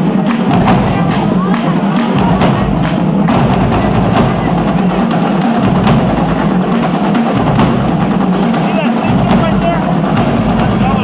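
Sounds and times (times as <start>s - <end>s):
bass drums: 0.0s - 11.0s
snare drums: 0.0s - 11.0s.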